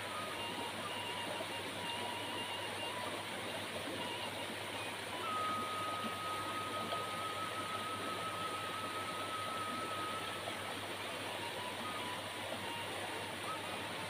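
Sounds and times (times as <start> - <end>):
stream rushing over stones: 0.0 - 14.0
thin high tone: 0.0 - 14.0.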